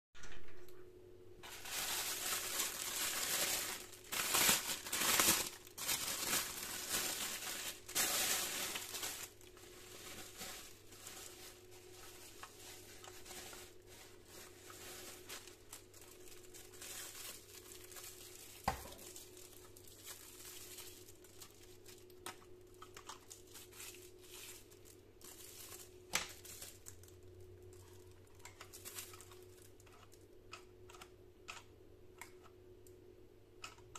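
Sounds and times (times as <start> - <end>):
plastic bag and bubble wrap crinkling: 1.4 - 30.3.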